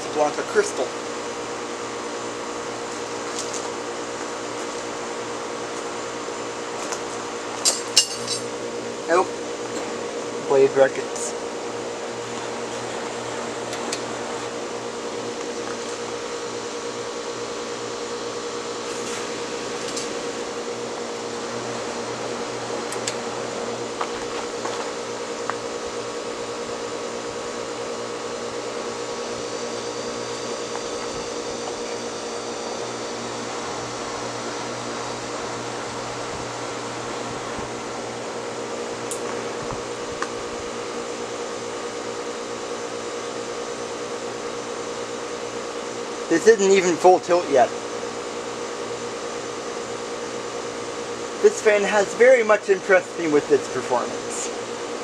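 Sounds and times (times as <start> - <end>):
ceiling fan humming: 0.0 - 55.0.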